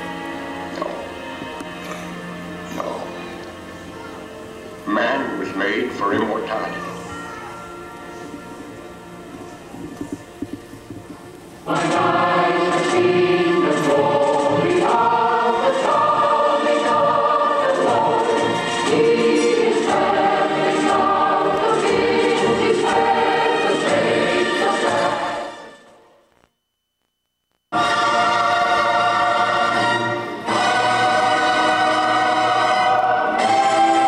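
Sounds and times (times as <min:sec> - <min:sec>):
choir singing sustained chords: 0:00.0 - 0:07.2, 0:11.3 - 0:26.1, 0:27.7 - 0:34.0.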